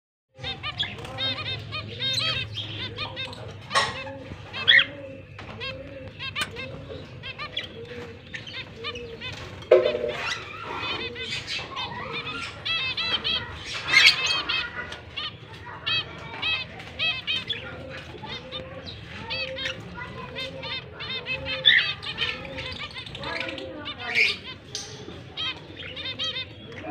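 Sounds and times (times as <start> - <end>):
lovebirds chirping: 0.3 - 26.9.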